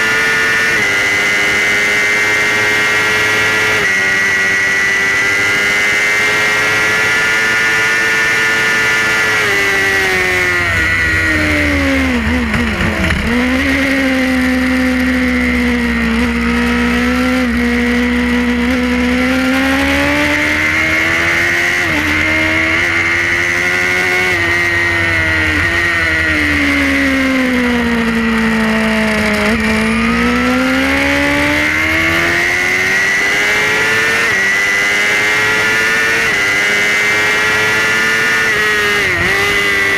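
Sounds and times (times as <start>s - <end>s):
racing motorcycle engine shifting gears: 0.0s - 39.9s.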